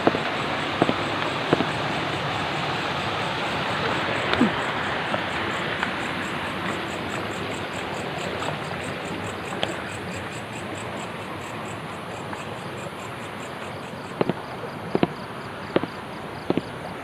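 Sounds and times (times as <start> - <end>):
night insects chirping: 0.0 - 17.0
stream water rushing: 0.0 - 17.0.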